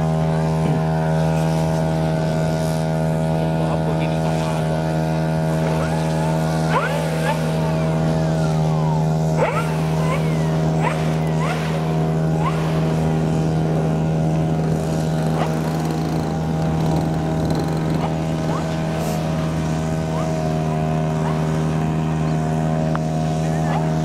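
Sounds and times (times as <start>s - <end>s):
model aircraft engine idling: 0.0s - 24.0s.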